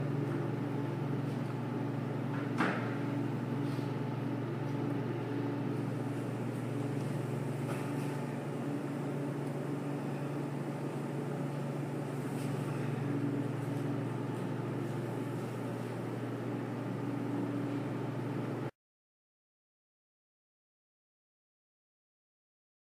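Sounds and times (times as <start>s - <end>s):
machinery humming: 0.0s - 18.7s.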